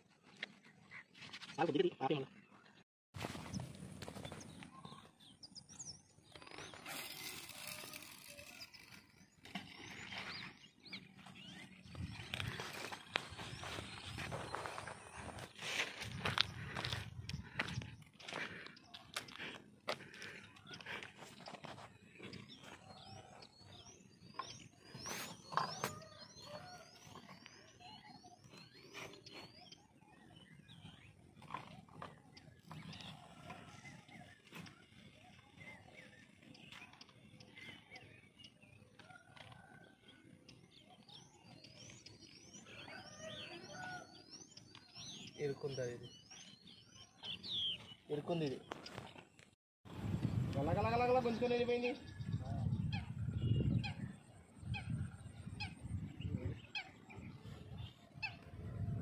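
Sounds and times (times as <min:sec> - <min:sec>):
small birds chirping: 0:00.1 - 0:59.0.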